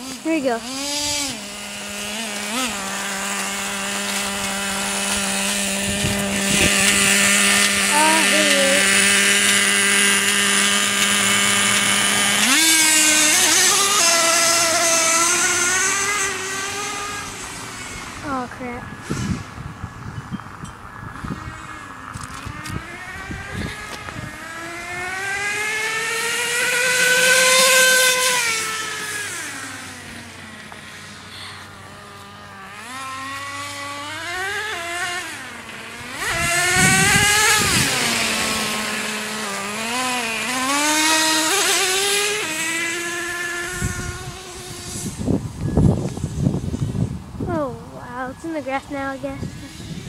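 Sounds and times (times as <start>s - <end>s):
small two-stroke engine revving: 0.0s - 50.0s.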